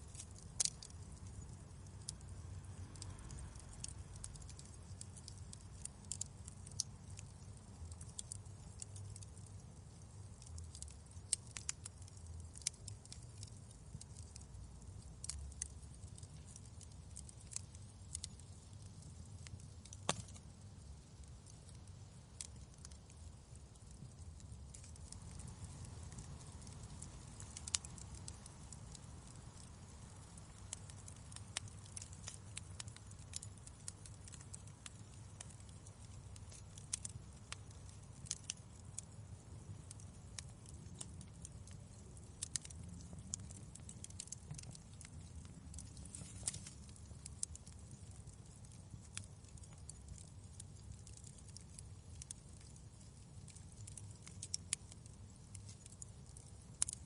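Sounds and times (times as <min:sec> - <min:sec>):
faint low rumble: 0:00.0 - 0:57.0
wood fire crackling: 0:00.0 - 0:57.0.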